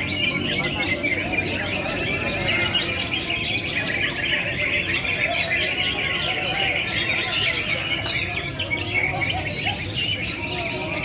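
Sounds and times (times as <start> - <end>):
songbirds chirping chorus: 0.0 - 11.0.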